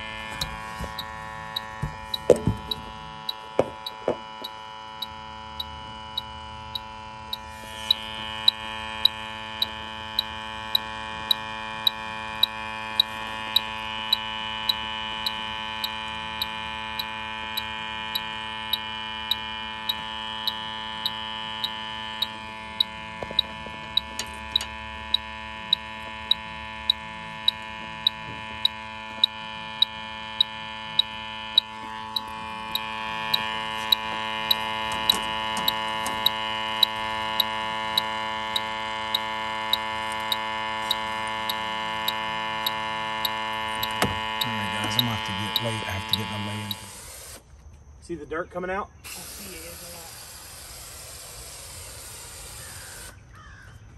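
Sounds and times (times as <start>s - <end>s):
leak detector beeping: 0.0s - 47.6s, 51.9s - 53.2s
multi-tone hum: 0.0s - 53.9s.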